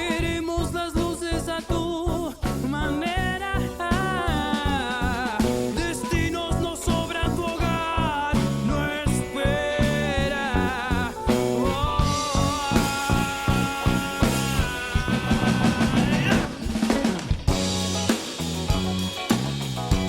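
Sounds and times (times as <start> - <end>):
person singing: 0.0 - 17.2
drum kit beat: 0.0 - 20.0
held keyboard or guitar tones: 0.0 - 20.0.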